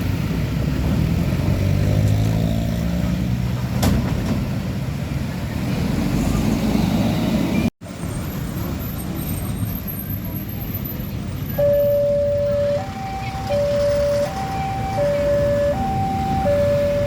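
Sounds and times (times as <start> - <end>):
truck diesel engine: 0.0 - 17.0.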